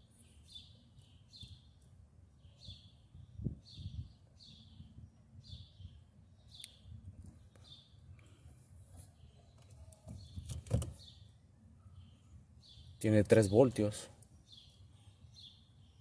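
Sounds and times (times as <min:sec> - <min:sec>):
bird chirping: 0:00.0 - 0:08.4, 0:09.0 - 0:16.0.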